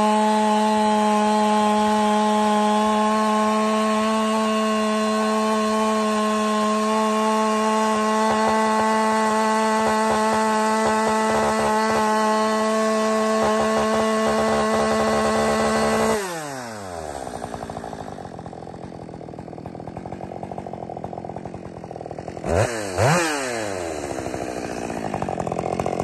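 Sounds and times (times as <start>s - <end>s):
chainsaw cutting log at high revs: 0.0s - 26.0s.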